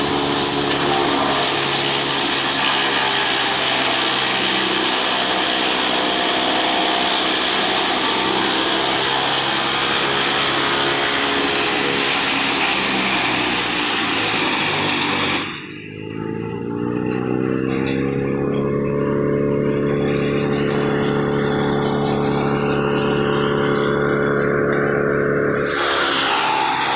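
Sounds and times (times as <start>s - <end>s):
tractor engine: 0.0s - 26.9s
wood chipper grinding wood: 0.0s - 26.9s.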